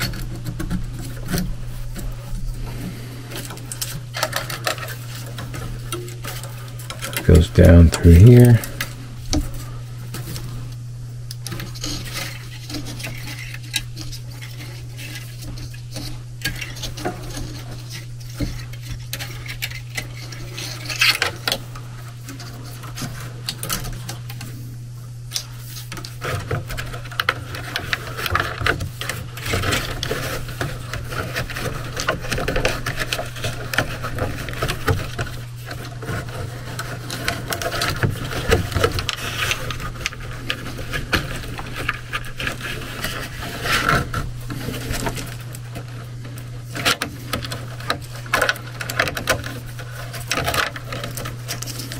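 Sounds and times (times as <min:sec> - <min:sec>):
rustling and scraping by hands: 0:00.0 - 0:51.9
steady low hum: 0:00.0 - 0:51.9.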